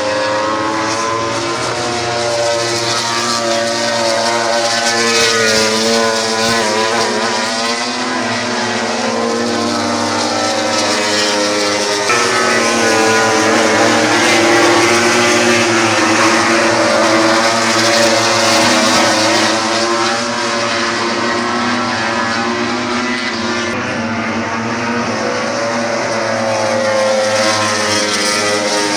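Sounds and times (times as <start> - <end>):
racing motorcycle engines revving: 0.0 - 28.9.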